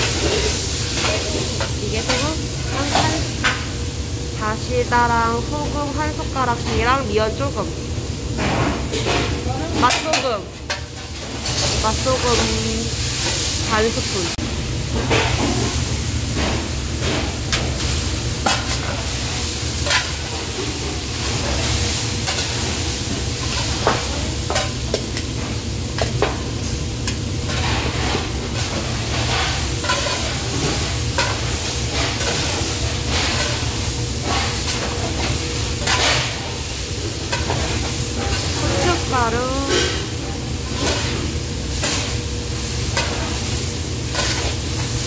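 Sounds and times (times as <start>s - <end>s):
food sizzling: 0.0s - 8.4s, 9.3s - 45.0s.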